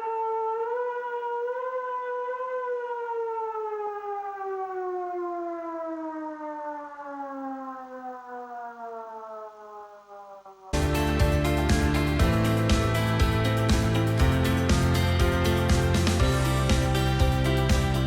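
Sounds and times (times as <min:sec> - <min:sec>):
warning siren wailing: 0:00.0 - 0:18.0.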